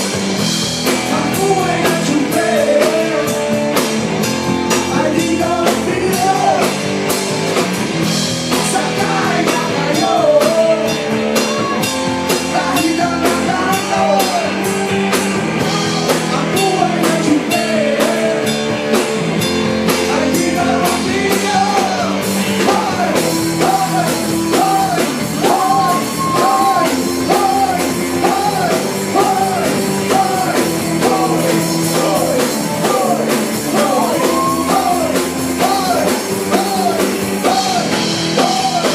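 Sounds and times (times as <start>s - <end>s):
rock band playing: 0.0s - 38.9s
person singing: 1.0s - 3.6s, 4.7s - 6.8s, 8.5s - 18.7s, 19.9s - 38.9s.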